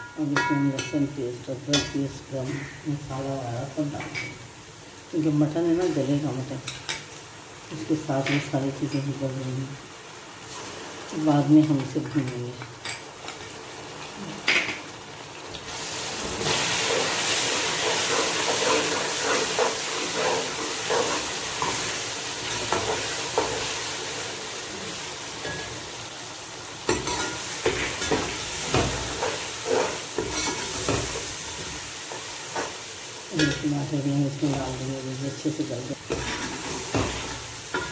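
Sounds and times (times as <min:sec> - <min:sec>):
onions sizzling in hot oil: 0:00.0 - 0:37.9.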